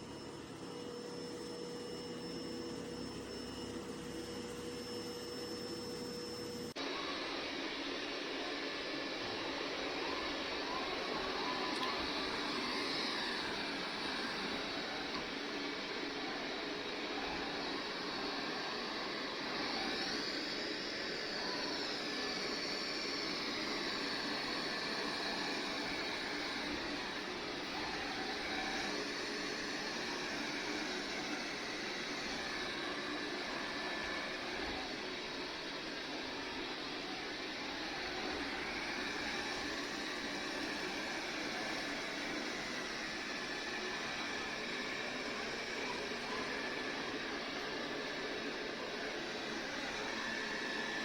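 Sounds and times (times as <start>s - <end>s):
robot vacuum running: 0.0s - 51.0s.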